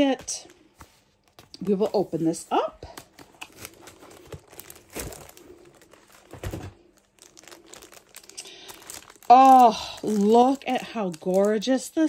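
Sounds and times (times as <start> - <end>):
packaging rustling and crinkling: 0.1 - 12.0.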